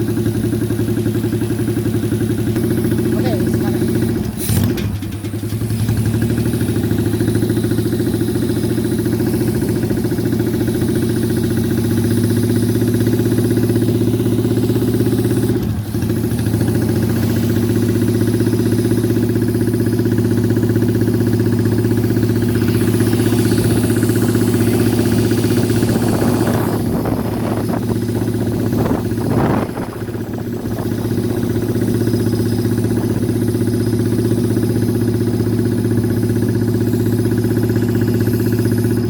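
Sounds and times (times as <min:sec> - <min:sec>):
motorcycle engine running steadily: 0:00.0 - 0:39.0.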